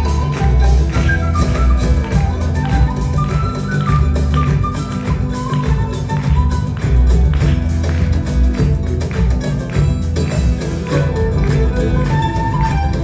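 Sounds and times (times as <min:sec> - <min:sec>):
ensemble playing live music: 0:00.0 - 0:13.0
steady percussive beat: 0:00.0 - 0:13.0.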